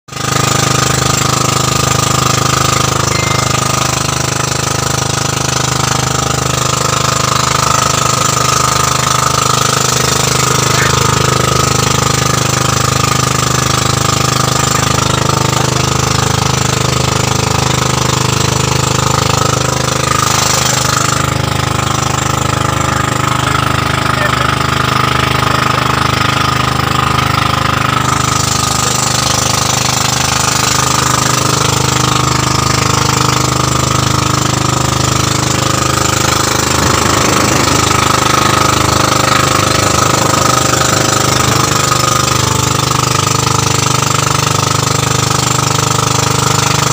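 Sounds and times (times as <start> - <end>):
boat engine running: 0.1 - 46.9
water rushing past hull: 0.1 - 46.9.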